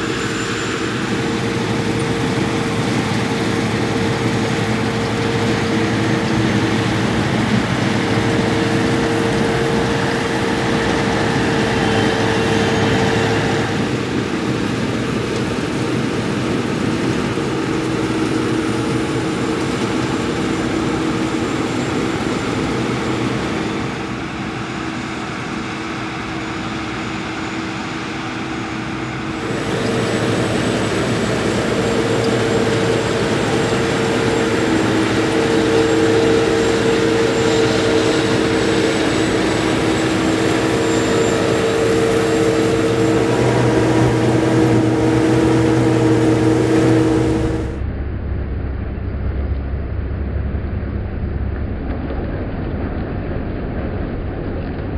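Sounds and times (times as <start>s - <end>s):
combine harvester drone: 0.0s - 54.9s
steady machine whine: 0.0s - 54.9s.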